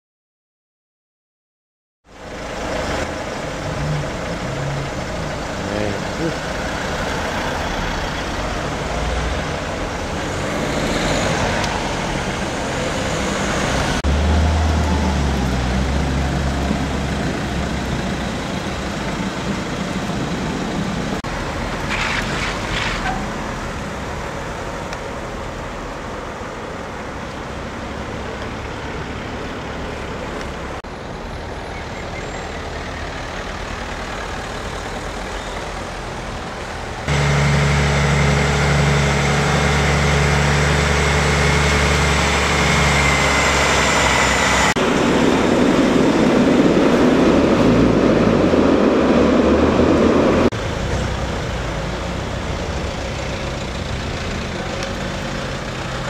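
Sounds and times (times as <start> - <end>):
cars and lorries passing: 2.0 - 56.0
lorry engine deep rumble: 2.1 - 56.0.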